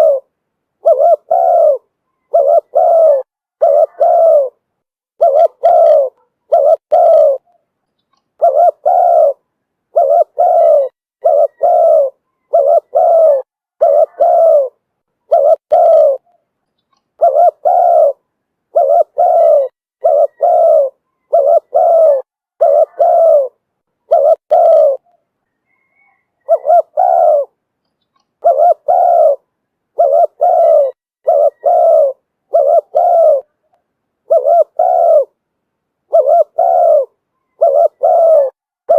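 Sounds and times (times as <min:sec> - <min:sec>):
dove cooing: 0:00.0 - 0:04.6, 0:05.2 - 0:07.6, 0:08.4 - 0:16.4, 0:17.2 - 0:27.6, 0:28.4 - 0:35.4, 0:36.1 - 0:38.9.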